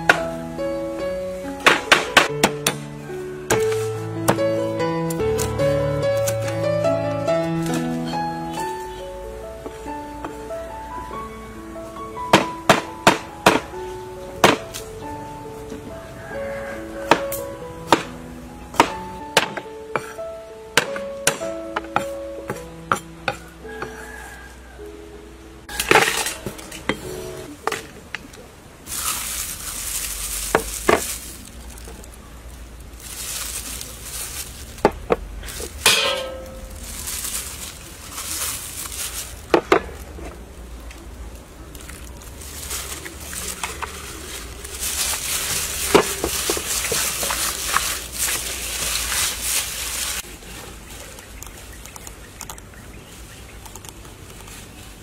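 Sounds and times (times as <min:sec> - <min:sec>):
plastic gloves crinkling: 0:00.0 - 0:20.3, 0:25.7 - 0:55.0.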